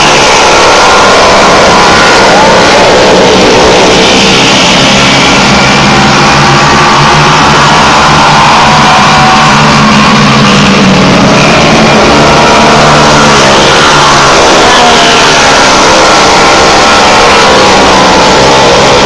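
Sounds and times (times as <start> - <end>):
racing engines passing: 0.0 - 19.0.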